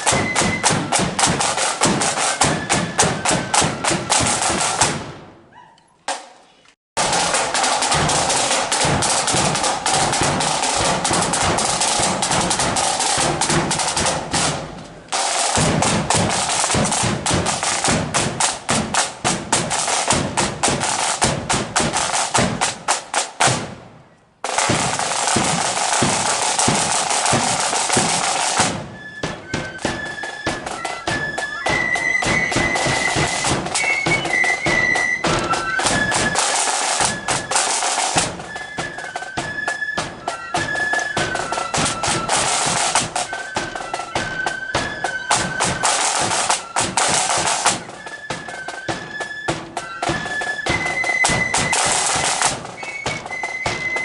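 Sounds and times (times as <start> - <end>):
snare drum rolls: 0.0 - 5.4, 7.0 - 54.0.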